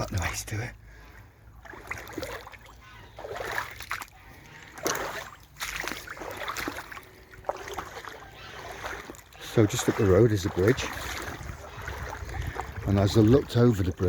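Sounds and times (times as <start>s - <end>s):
wading through shallow water: 0.0s - 14.0s.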